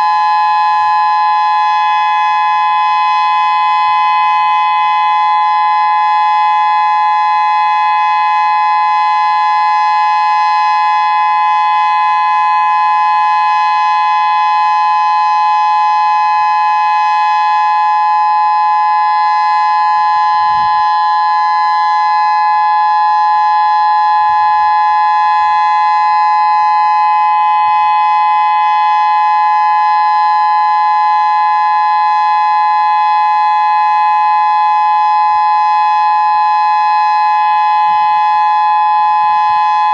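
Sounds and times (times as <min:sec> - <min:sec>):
electronic warning siren: 0:00.0 - 0:39.9.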